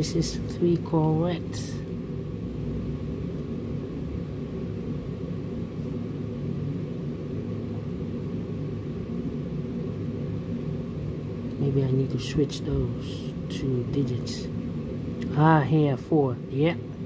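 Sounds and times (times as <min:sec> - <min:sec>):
low background rumble and hum: 0:00.0 - 0:17.0.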